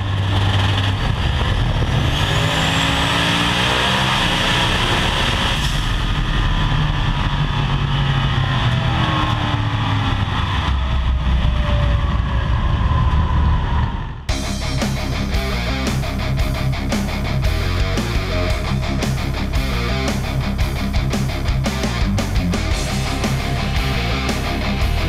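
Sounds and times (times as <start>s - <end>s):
loud engine running hard: 0.0s - 13.3s, 14.3s - 25.0s.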